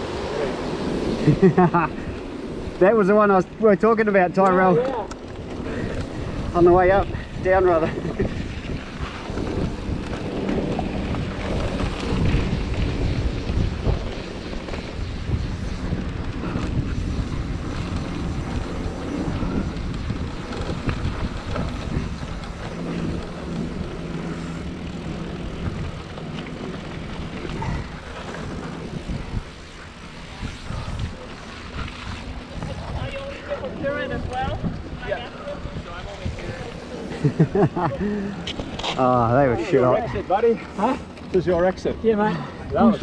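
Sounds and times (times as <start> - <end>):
bike rattling: 0.0 - 43.0
bike tyres crunching over gravel: 0.0 - 43.0
wind buffeting microphone: 0.0 - 43.0.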